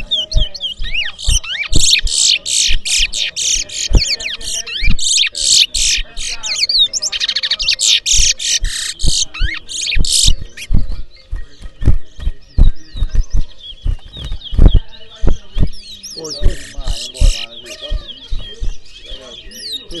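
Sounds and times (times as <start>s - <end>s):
finch singing: 0.0s - 20.0s.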